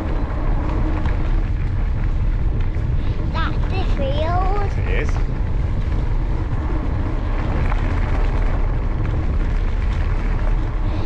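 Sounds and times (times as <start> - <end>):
bike tyres on trail: 0.0 - 11.0
wind buffeting microphone: 0.0 - 11.0.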